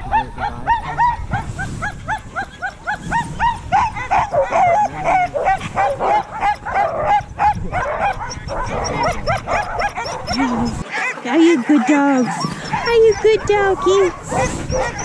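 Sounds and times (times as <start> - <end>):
sled dogs yipping and barking: 0.0 - 15.0.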